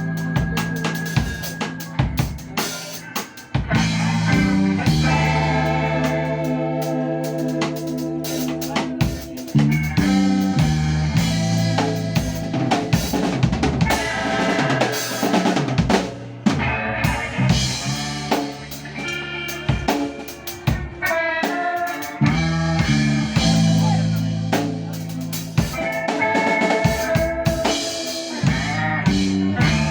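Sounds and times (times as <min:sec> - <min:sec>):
drum kit: 0:00.0 - 0:29.9
guitar and bass notes: 0:00.0 - 0:29.9.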